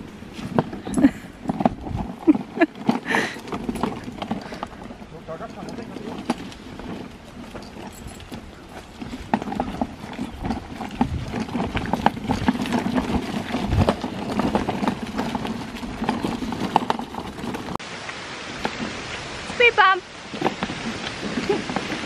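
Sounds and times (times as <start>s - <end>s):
wagon rattling over gravel: 0.0s - 17.8s, 18.5s - 22.0s.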